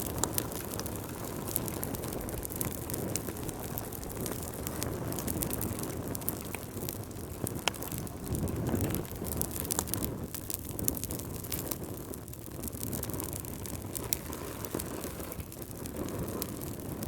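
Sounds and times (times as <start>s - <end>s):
fire flames rushing: 0.0s - 17.0s
logs crackling and popping: 0.0s - 17.0s.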